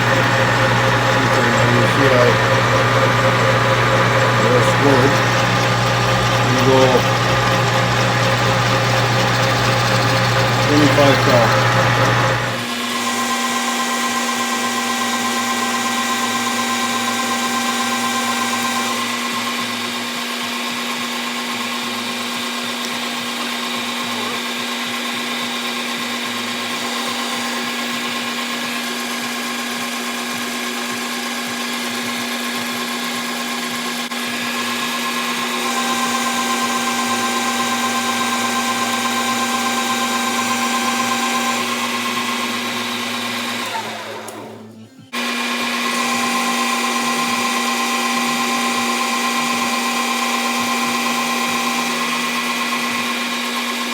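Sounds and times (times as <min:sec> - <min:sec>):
metal lathe motor and gear whine: 0:00.0 - 0:53.9.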